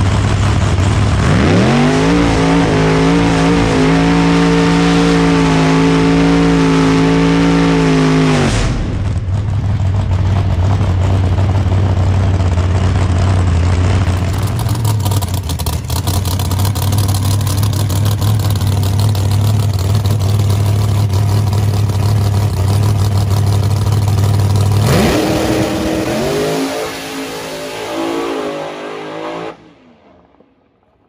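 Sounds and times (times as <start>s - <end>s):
drag car engine revving: 0.0s - 30.5s.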